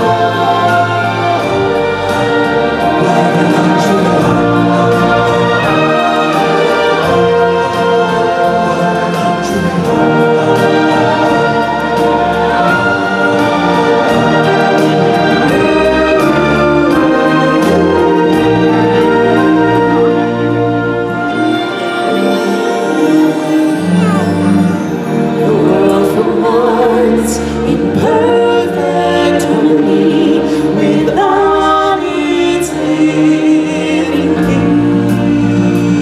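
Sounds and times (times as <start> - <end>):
orchestral stage-show music: 0.0 - 36.0.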